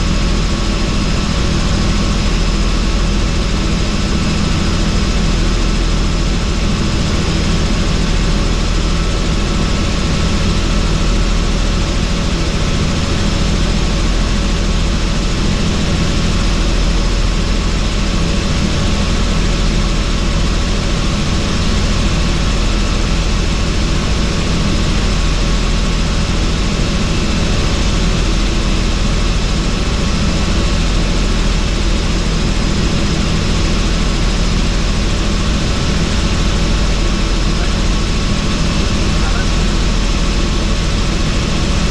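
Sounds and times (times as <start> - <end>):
helicopter rotor and engine: 0.0 - 41.9
thin steady whines: 0.0 - 41.9.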